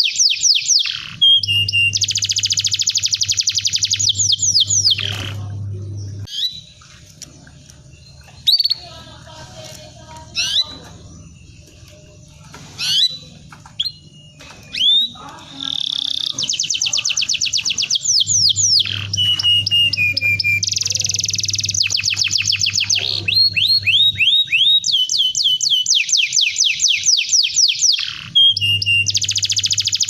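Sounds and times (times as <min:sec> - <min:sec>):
canary singing: 0:00.0 - 0:30.0
low steady hum: 0:00.8 - 0:25.6.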